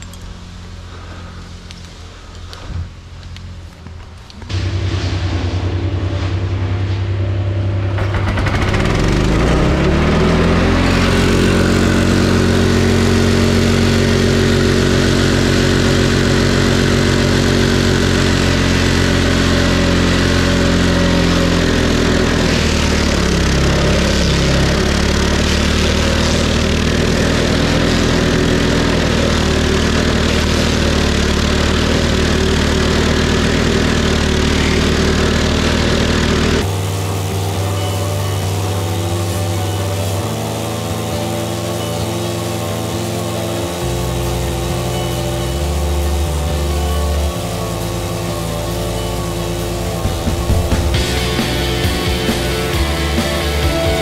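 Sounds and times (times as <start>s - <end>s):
stump grinder engine revving: 7.7s - 54.0s
cutter wheel grinding a stump: 8.0s - 54.0s.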